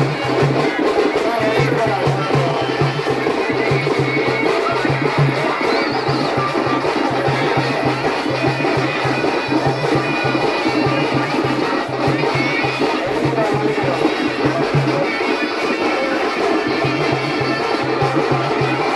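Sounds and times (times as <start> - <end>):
music with fast drumming: 0.0 - 18.9.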